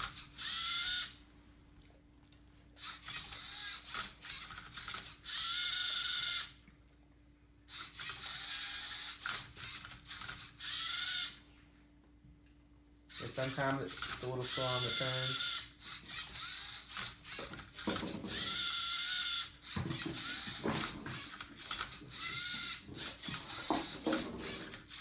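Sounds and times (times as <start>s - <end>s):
robot motor whirring: 0.0s - 1.2s, 2.8s - 6.5s, 7.7s - 11.4s, 13.1s - 25.0s.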